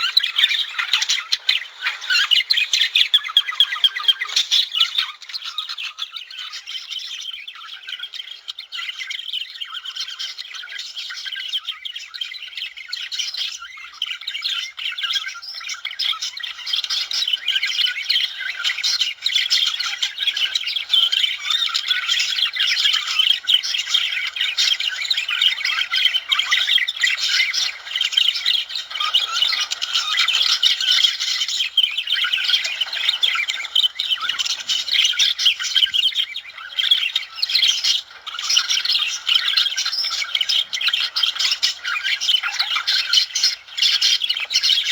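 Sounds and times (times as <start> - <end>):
budgerigars warbling and chirping: 0.0 - 44.9.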